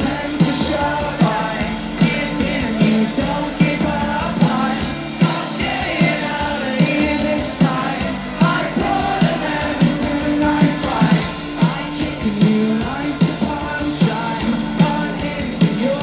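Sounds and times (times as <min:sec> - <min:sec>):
drum beat: 0:00.0 - 0:16.0
rock band playing: 0:00.0 - 0:16.0
wordless singing: 0:00.0 - 0:16.0.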